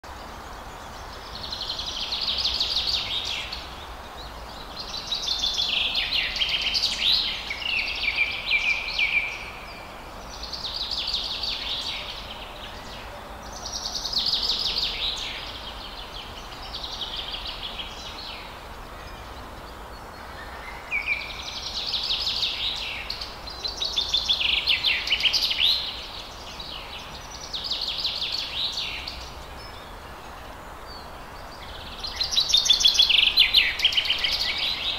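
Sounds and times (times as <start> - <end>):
background hiss: 0.0 - 34.9
songbirds singing trills: 0.1 - 34.9.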